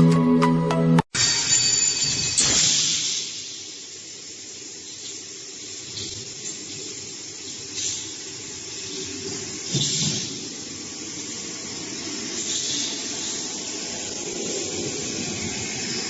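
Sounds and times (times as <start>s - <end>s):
steady hissing: 2.3s - 16.0s.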